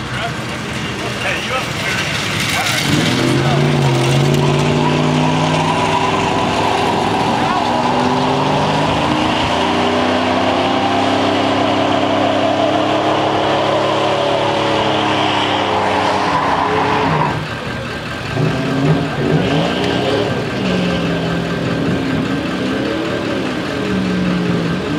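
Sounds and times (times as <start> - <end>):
engine revving at high revs: 2.4 - 24.9.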